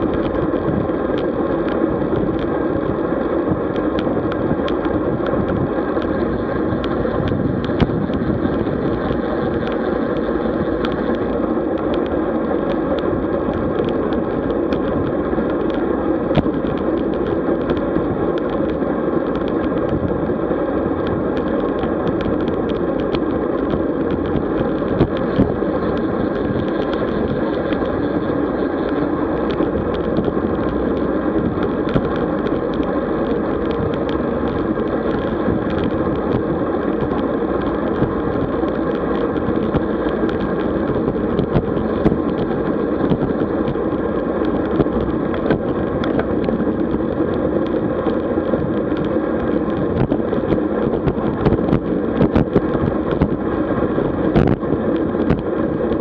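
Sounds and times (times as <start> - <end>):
bicycle road noise: 0.0 - 56.0
small clicks and rattles: 0.0 - 56.0
wind noise: 0.0 - 56.0.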